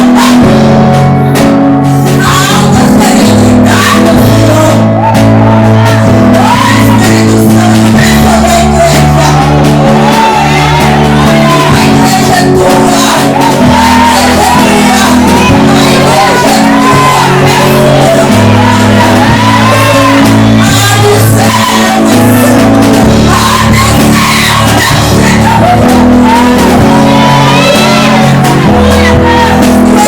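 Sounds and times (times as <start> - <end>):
bass and keyboard chords: 0.0 - 30.0
voices singing and shouting: 2.0 - 30.0.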